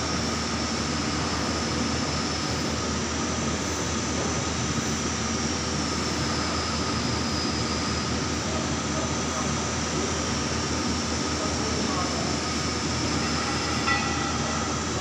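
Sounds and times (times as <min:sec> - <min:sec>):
lathe machine hum and whine: 0:00.0 - 0:15.0.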